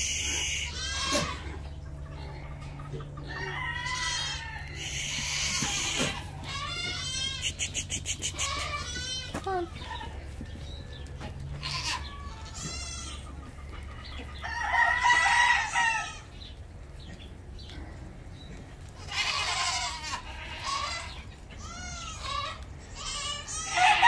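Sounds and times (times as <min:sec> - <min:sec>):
farm animal calls: 0:00.0 - 0:24.0.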